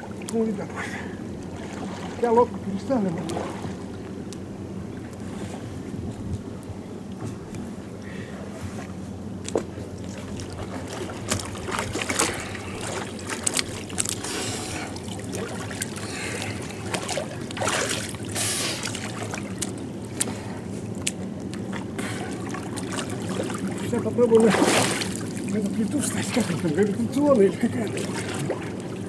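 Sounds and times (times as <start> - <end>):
water splashing from swimming: 0.0 - 4.2, 9.5 - 29.0.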